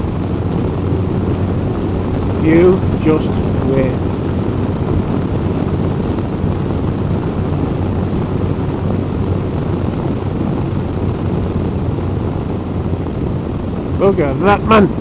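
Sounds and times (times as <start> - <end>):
motorcycle engine rumble: 0.0 - 15.0
wind rush: 0.0 - 15.0.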